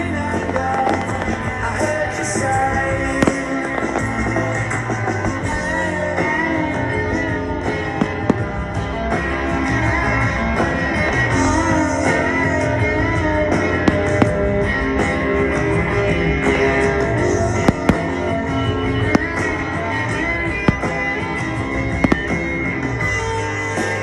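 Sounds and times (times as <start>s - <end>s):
fireworks cracking: 0.0s - 24.0s
guitar rock music: 0.0s - 24.0s.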